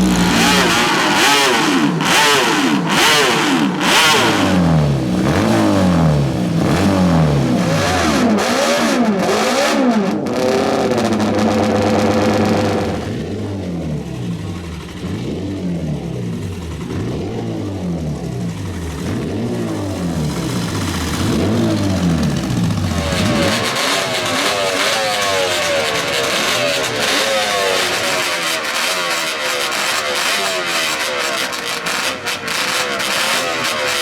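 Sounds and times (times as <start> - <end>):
higher motorcycle engine accelerating: 0.0 - 34.0
low motorcycle engine revving: 0.0 - 34.0.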